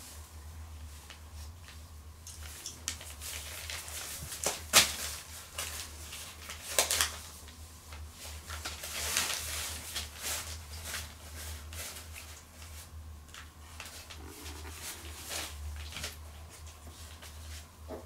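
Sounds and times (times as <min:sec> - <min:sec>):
steady low hum: 0:00.0 - 0:18.0
newspaper rustling and crinkling: 0:02.4 - 0:17.7.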